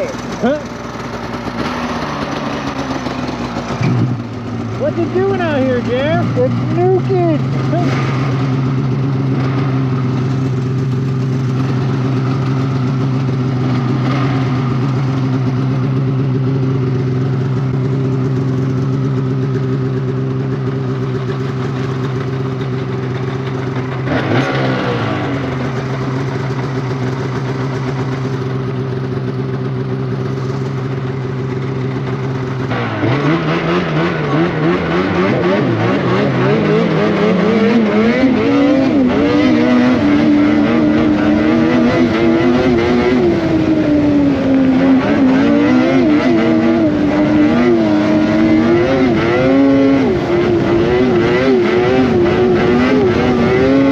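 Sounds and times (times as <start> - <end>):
snowmobile engine running: 0.0 - 53.9.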